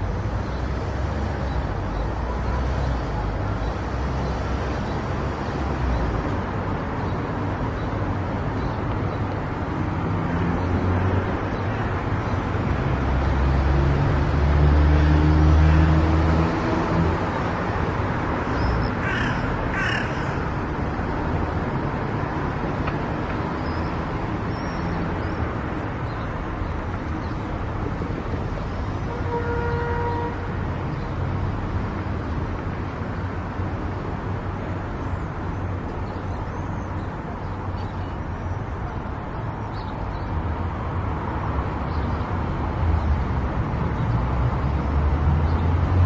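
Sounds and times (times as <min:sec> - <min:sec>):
road and tyre noise: 0:00.0 - 0:46.0.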